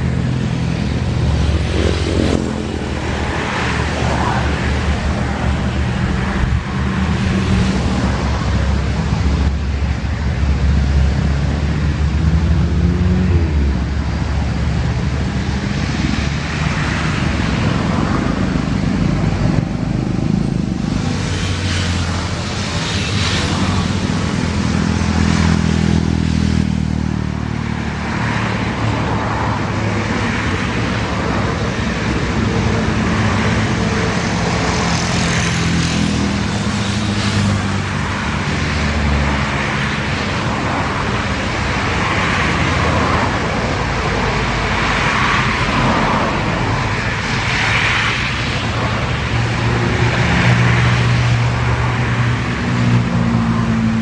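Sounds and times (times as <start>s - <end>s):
loud engine noise: 0.0s - 54.0s.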